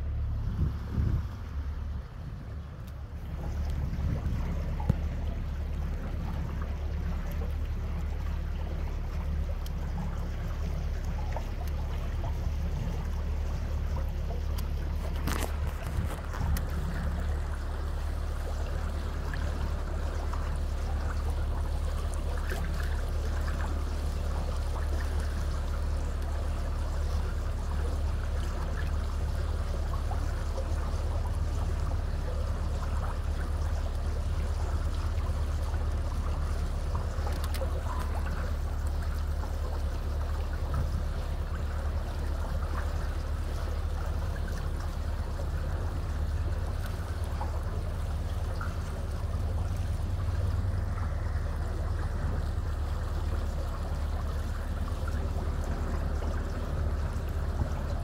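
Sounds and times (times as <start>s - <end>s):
steady low rumble: 0.0s - 58.0s
water splashing along boat hull: 0.0s - 58.0s.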